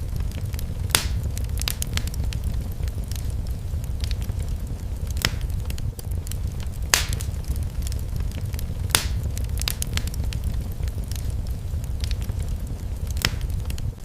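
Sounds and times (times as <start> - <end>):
fire crackling: 0.0 - 14.0
low rumble: 0.0 - 14.0
sharp fire pops: 0.0 - 14.0.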